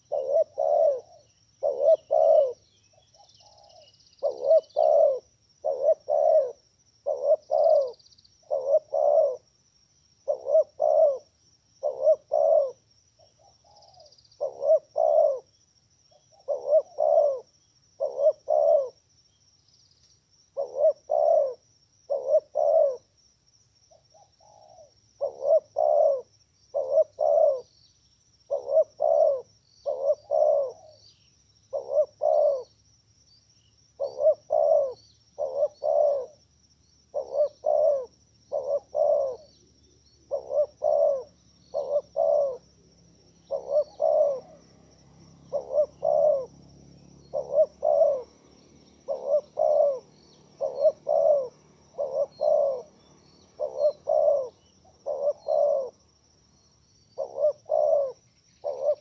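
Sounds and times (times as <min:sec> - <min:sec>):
dove cooing: 0:00.0 - 0:09.5, 0:10.2 - 0:15.5, 0:16.1 - 0:19.0, 0:20.6 - 0:23.1, 0:23.9 - 0:27.7, 0:28.5 - 0:31.1, 0:31.7 - 0:32.8, 0:34.0 - 0:36.4, 0:37.1 - 0:56.2, 0:57.0 - 0:59.0
faint bird chirps: 0:00.0 - 0:59.0.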